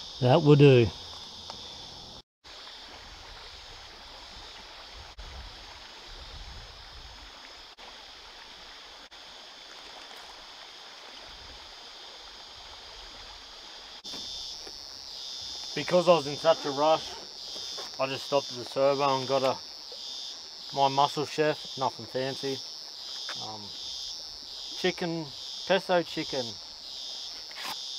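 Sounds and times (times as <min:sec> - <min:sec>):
cicadas droning: 0:00.0 - 0:27.9.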